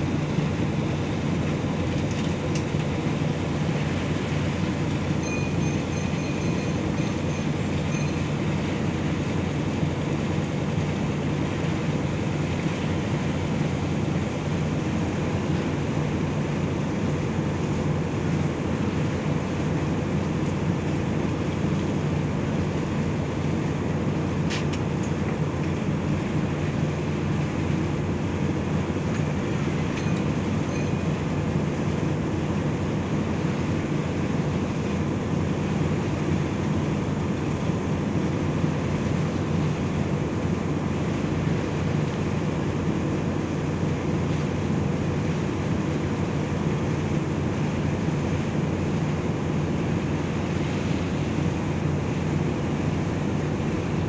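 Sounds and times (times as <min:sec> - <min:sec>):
ship engine droning: 0:00.0 - 0:54.0.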